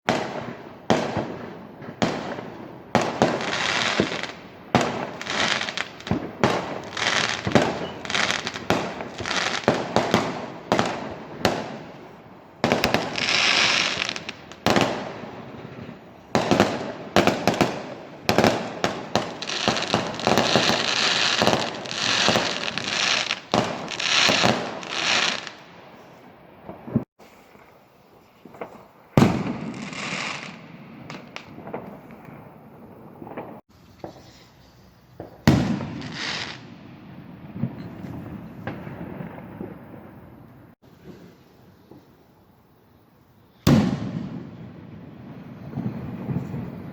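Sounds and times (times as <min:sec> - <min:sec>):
fireworks bangs: 0:00.1 - 0:34.4, 0:35.0 - 0:42.2, 0:43.6 - 0:46.9
fireworks crackling: 0:00.1 - 0:42.7, 0:43.5 - 0:46.9.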